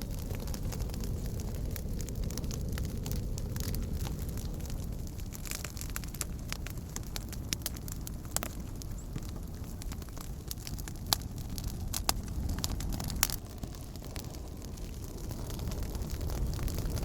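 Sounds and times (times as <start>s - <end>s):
campfire crackling and popping: 0.0s - 17.0s
fire low rumble: 0.0s - 17.0s.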